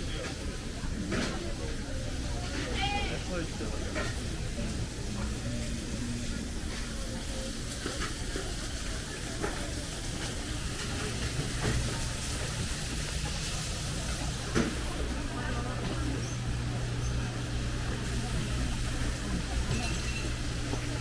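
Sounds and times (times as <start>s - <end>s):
faint background chatter: 0.0s - 21.0s.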